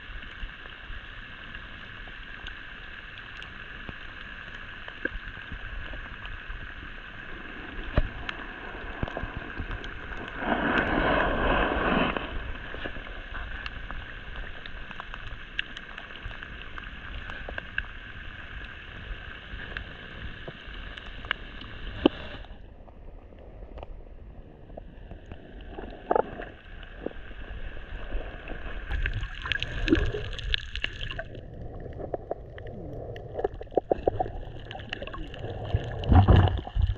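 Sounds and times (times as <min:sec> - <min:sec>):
water rush: 0:00.0 - 0:23.6, 0:24.8 - 0:36.9
underwater hiss: 0:00.1 - 0:22.6, 0:25.0 - 0:36.9.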